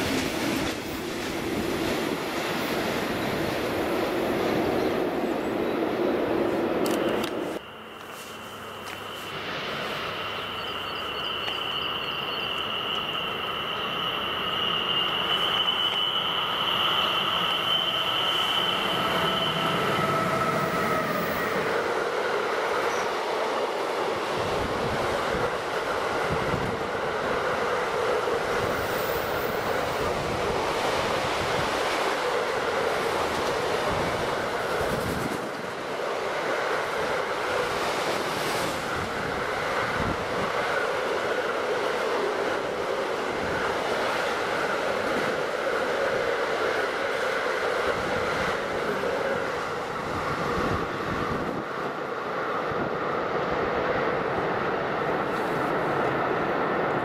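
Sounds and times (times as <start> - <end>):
train wagons rumbling and rattling: 0.0 - 57.0.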